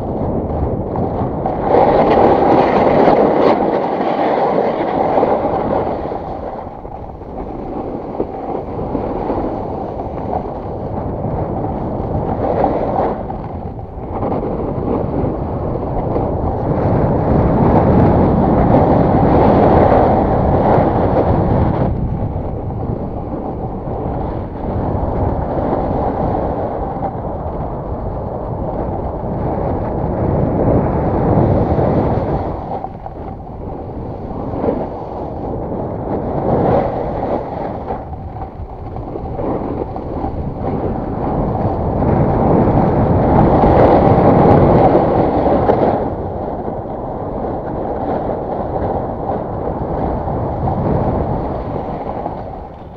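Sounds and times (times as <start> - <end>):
snowboard scraping over snow: 0.0 - 52.9
wind rushing over microphone: 0.0 - 52.9.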